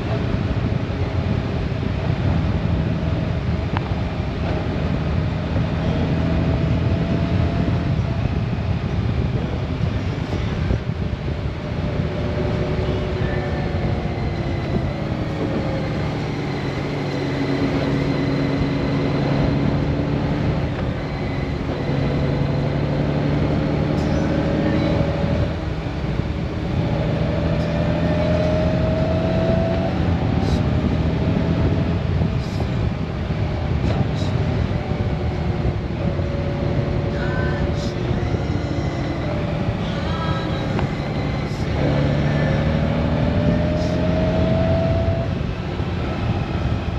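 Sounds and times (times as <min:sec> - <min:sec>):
motorcycle engine running: 0:00.0 - 0:46.9
road and wind noise: 0:00.0 - 0:46.9.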